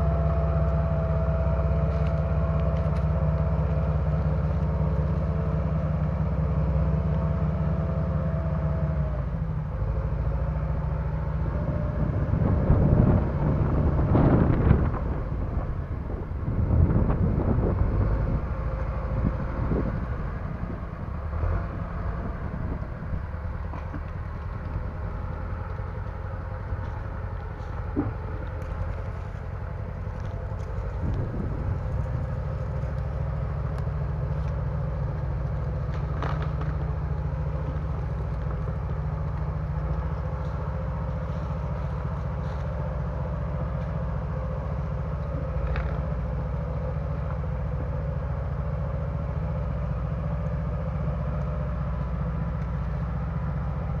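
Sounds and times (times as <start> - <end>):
bulldozer engine running: 0.0 - 54.0.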